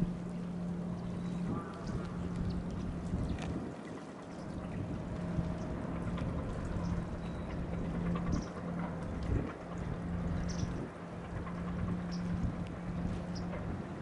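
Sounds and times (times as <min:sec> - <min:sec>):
steady low hum: 0:00.0 - 0:14.0
water lapping against hull: 0:00.0 - 0:14.0.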